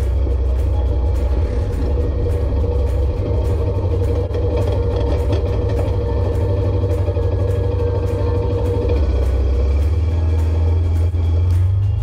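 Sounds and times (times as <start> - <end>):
background music with steady beat: 0.0 - 12.0
quad bike engine rumbling: 0.0 - 12.0.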